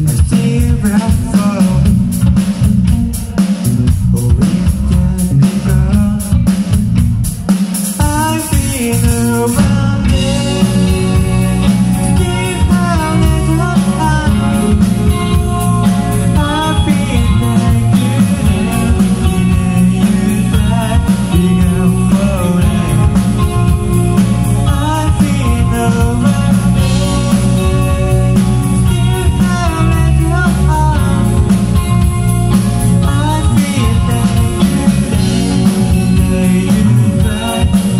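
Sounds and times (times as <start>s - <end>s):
man singing: 0.0s - 6.8s, 7.9s - 32.0s, 32.9s - 37.9s
bass guitar: 0.0s - 37.9s
drum kit: 0.0s - 37.9s
electric guitar: 0.0s - 37.9s.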